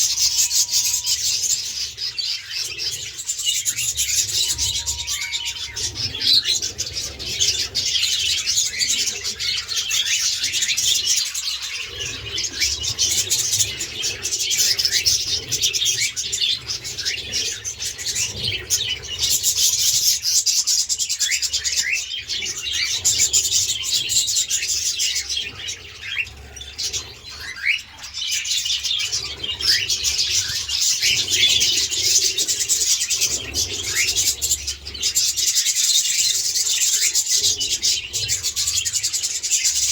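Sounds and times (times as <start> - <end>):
caged birds chattering and chirping: 0.0 - 39.9.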